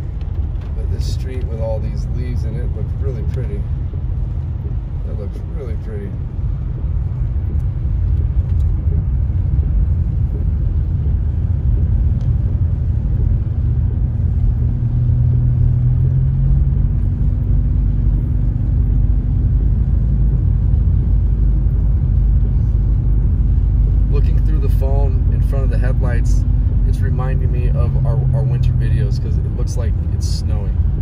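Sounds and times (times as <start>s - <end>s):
car engine hum from inside: 0.0s - 31.0s.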